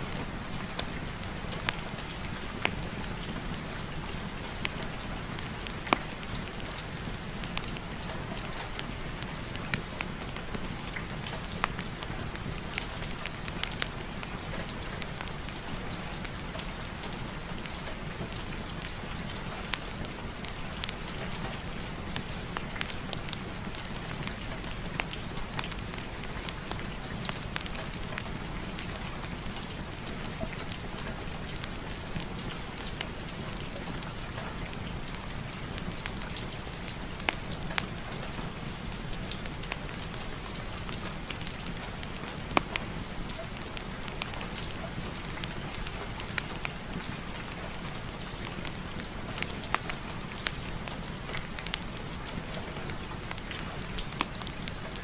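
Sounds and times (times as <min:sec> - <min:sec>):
rain hiss: 0:00.0 - 0:55.0
fire crackling and popping: 0:00.1 - 0:55.0.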